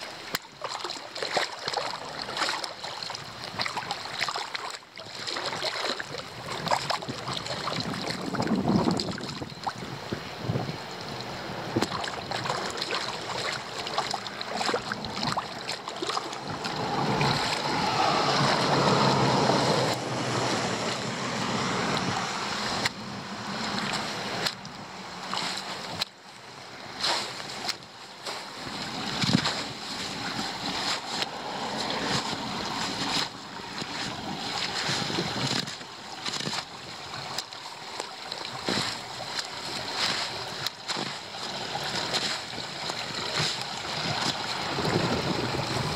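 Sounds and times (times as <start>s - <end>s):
water rushing into a drain: 0.0s - 45.9s.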